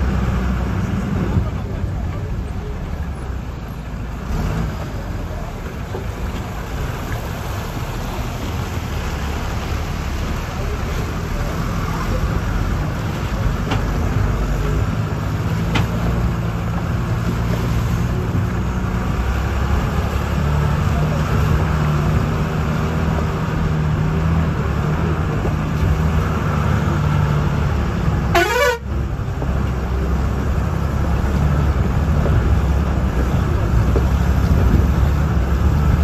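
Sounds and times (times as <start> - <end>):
bus engine and road noise: 0.0 - 36.0.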